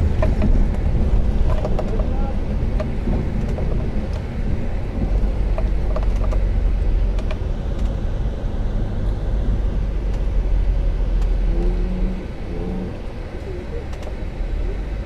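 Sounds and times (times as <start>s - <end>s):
low road rumble: 0.0s - 15.0s.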